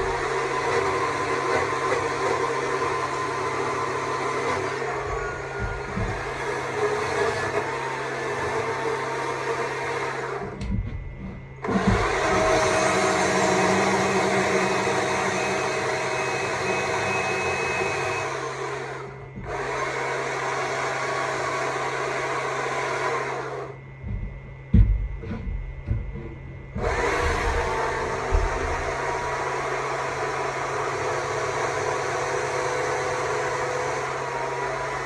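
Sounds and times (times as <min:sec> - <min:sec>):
battery chainsaw carving wood: 0:00.0 - 0:10.6, 0:11.6 - 0:23.8, 0:26.8 - 0:35.0.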